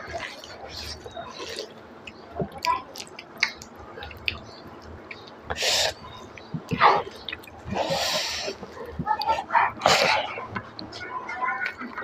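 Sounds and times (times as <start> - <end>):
wet chewing and lip smacks: 0.0 - 10.9.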